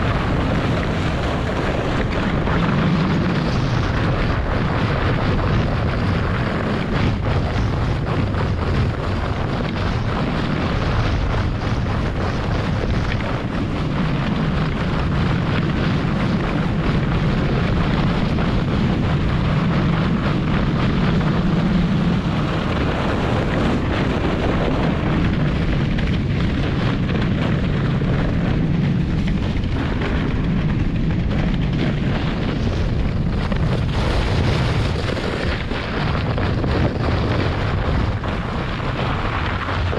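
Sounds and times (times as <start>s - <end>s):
sled runners scraping snow: 0.0s - 39.9s
wind buffeting microphone: 0.0s - 39.9s.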